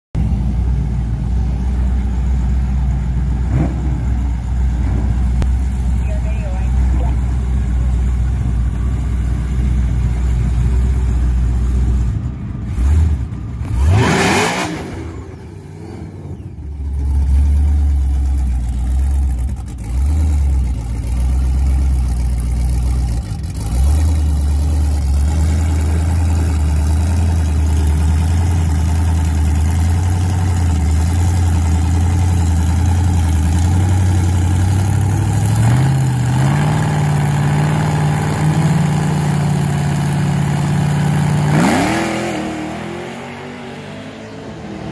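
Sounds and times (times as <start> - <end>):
car engine idling: 0.2 - 14.0, 15.0 - 42.1
engine revving: 3.4 - 7.5, 12.6 - 44.9.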